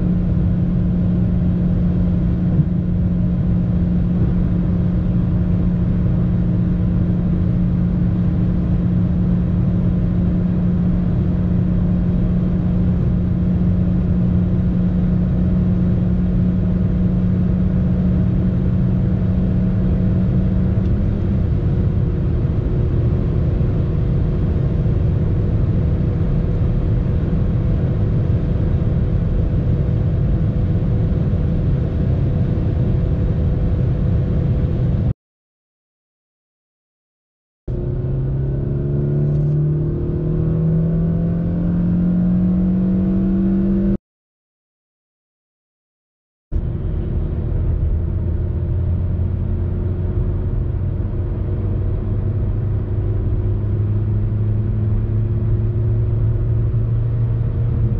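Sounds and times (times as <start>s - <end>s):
car engine at high revs: 0.0s - 35.1s, 37.7s - 44.0s, 46.6s - 57.9s
low road rumble: 0.0s - 35.1s, 37.7s - 44.0s, 46.5s - 57.9s.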